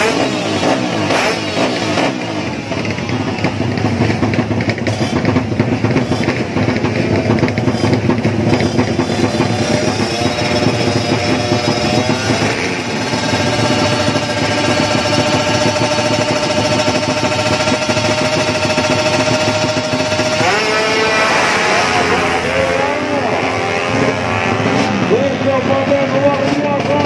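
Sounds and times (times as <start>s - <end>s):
motorcycle engines revving: 0.0s - 27.0s
drum-heavy music: 2.2s - 27.0s.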